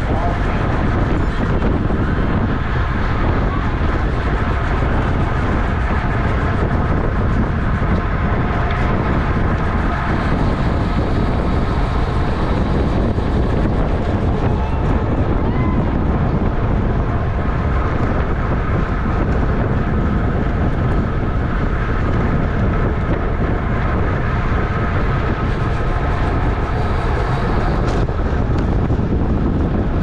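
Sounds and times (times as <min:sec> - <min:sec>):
wind noise on microphone: 0:00.0 - 0:30.0.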